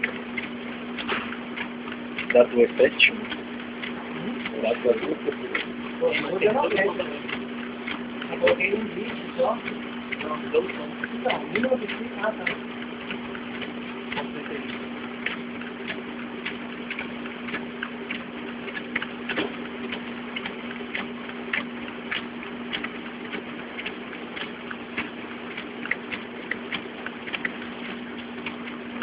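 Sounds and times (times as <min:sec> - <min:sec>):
document scanner motor hum: 0:00.0 - 0:29.0
scanner feeder clicks: 0:00.0 - 0:29.0.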